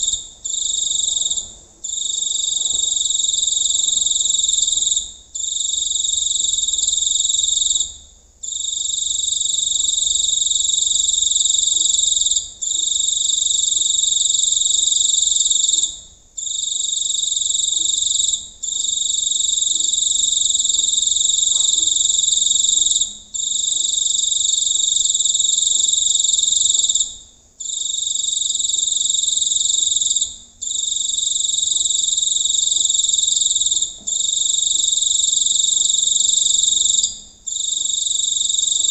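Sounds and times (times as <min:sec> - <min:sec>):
cricket chirping loudly: 0:00.0 - 0:38.9.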